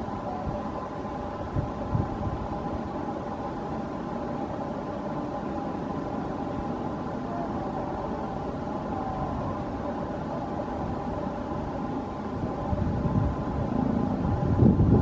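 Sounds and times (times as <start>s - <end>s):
faint steady hum: 0.0s - 15.0s
train rumble approaching: 0.0s - 15.0s.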